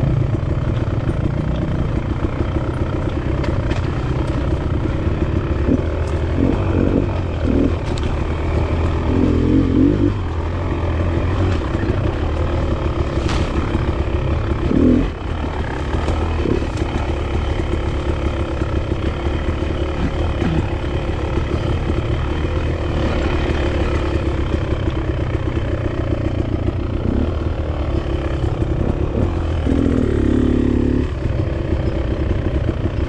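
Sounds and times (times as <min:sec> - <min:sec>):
dirt bike engine revving: 0:01.1 - 0:32.8.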